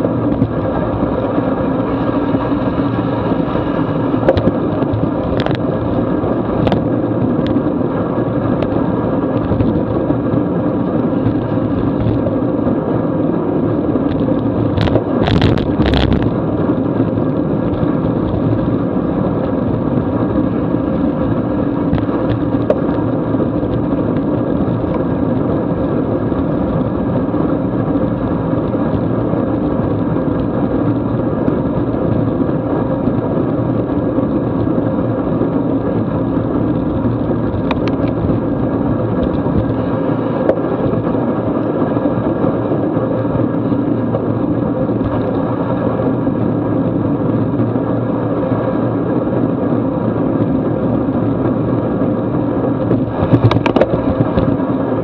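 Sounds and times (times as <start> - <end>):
bike tyres on wet pavement: 0.0 - 55.0
wind rush: 0.0 - 55.0.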